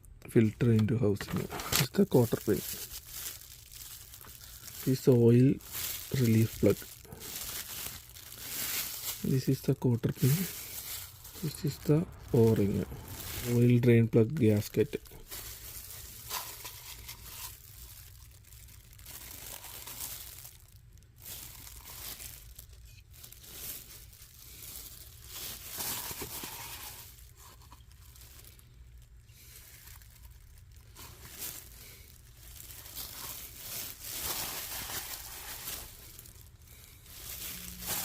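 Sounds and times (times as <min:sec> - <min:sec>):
packaging crinkling and rustling: 0:00.4 - 0:38.0.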